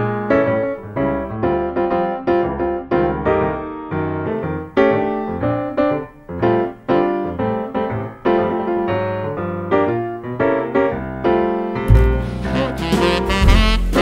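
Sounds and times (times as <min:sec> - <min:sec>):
solo piano chords: 0:00.0 - 0:14.0.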